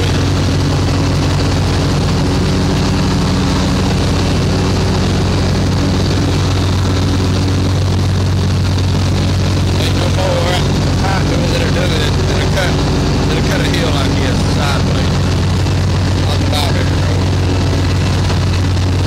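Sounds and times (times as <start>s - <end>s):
mower engine running: 0.0s - 19.0s.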